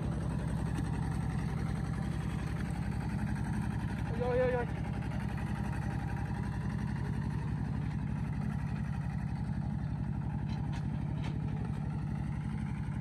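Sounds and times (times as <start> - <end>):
engine running with low throb: 0.0 - 13.0.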